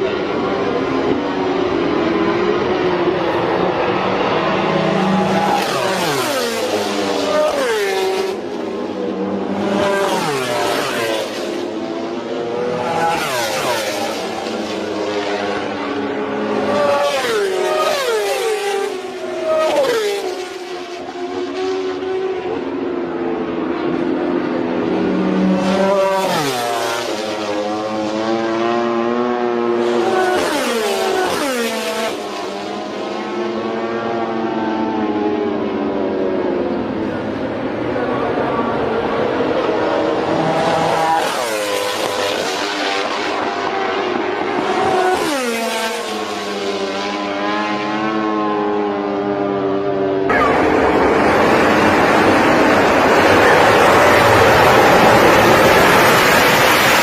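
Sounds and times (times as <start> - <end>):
racing motorcycles passing at speed: 0.0 - 57.0.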